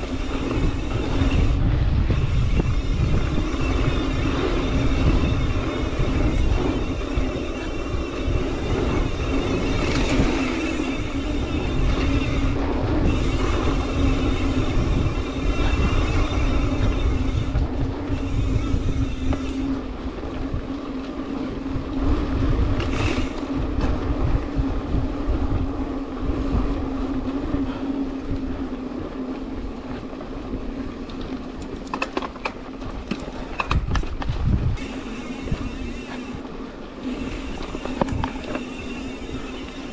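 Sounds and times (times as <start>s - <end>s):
bike hub freewheeling buzz: 0.0s - 39.9s
bike rattling over rough ground: 0.0s - 39.9s
wind buffeting microphone: 0.0s - 39.9s.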